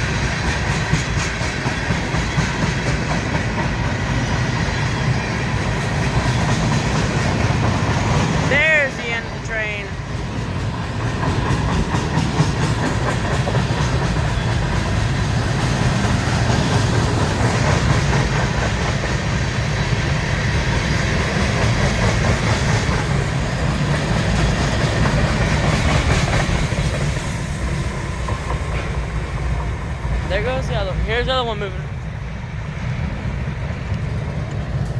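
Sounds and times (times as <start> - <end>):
freight train rolling on rails: 0.0 - 34.9.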